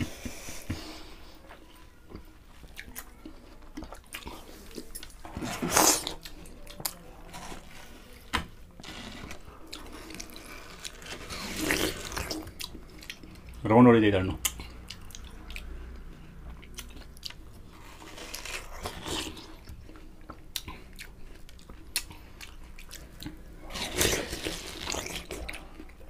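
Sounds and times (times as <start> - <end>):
people biting and chewing watermelon: 0.0 - 13.6, 14.4 - 26.0.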